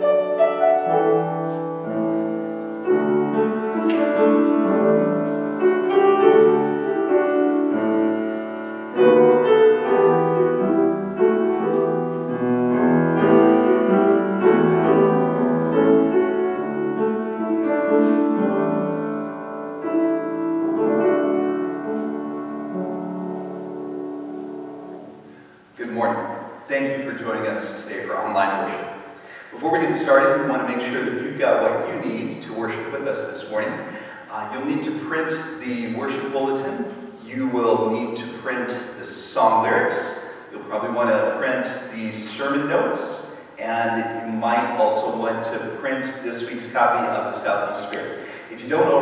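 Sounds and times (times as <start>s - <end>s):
slow piano music: 0.0s - 49.0s.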